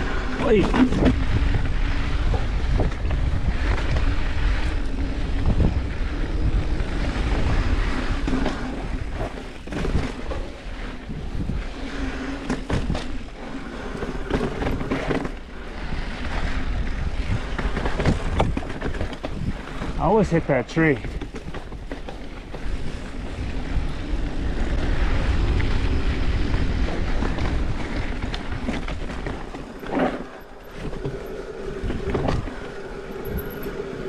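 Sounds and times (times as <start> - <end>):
bike knocking and rattling: 0.0 - 31.4
bike tyre rumble: 0.0 - 34.0
wind buffeting microphone: 0.0 - 34.0.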